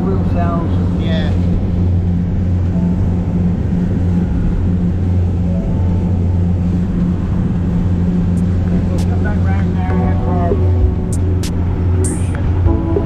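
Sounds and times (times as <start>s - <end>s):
motor boat engine droning: 0.0s - 13.0s
sea noise: 0.0s - 13.0s
wind: 0.0s - 13.0s.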